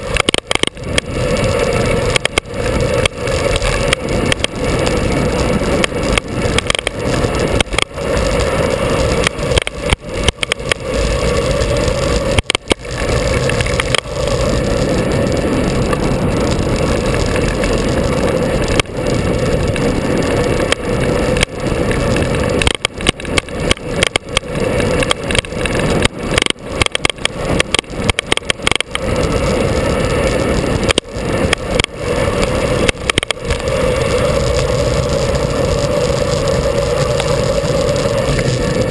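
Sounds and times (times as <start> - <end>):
engine droning: 0.0 - 38.9
road and wind noise: 0.0 - 38.9.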